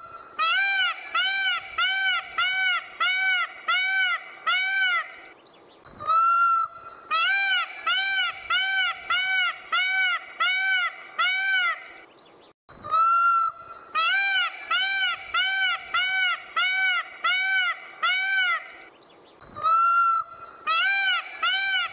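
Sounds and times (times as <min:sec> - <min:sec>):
peacock honking calls: 0:00.4 - 0:05.3, 0:06.0 - 0:12.0, 0:12.9 - 0:18.9, 0:19.6 - 0:21.9.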